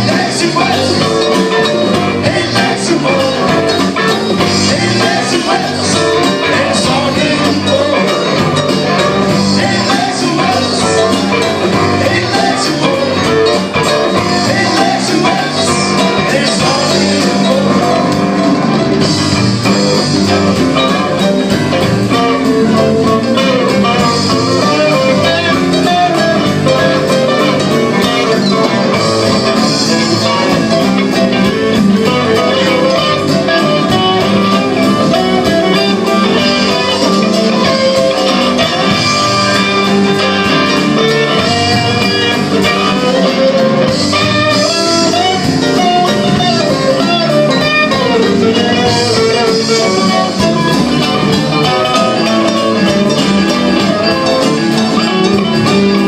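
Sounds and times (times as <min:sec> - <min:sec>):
electric guitar: 0:00.0 - 0:56.0
live blues-rock band: 0:00.0 - 0:56.0.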